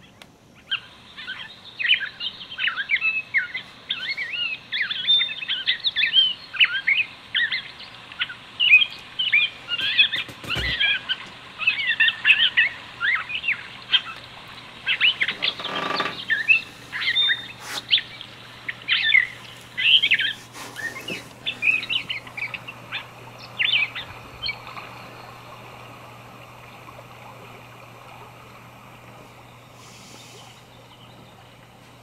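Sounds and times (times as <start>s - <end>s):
low steady hum: 0.0s - 32.0s
recorded birdsong chirps: 0.0s - 32.0s.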